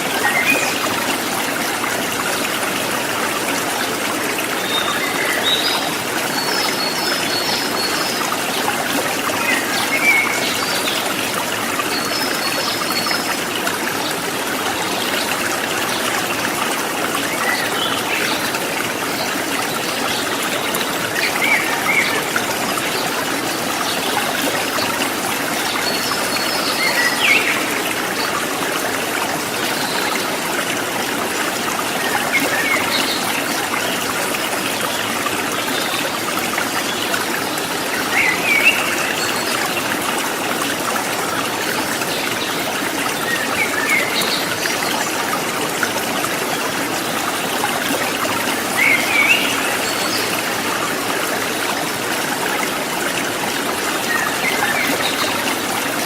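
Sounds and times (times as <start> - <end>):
river water splashing over stones: 0.0 - 56.0.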